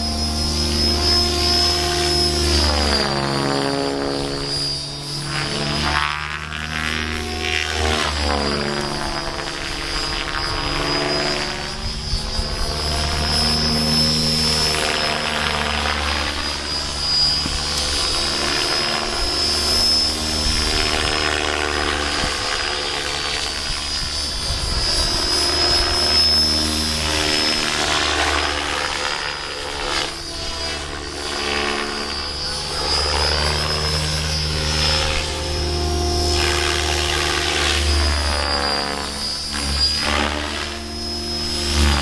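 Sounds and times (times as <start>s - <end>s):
model helicopter rotor drone: 0.0s - 42.0s.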